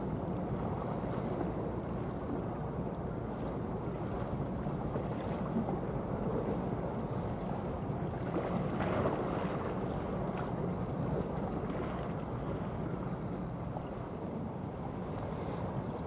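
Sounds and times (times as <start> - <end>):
choppy sea water washing: 0.0 - 16.0
wind rumbling on microphone: 0.0 - 16.0.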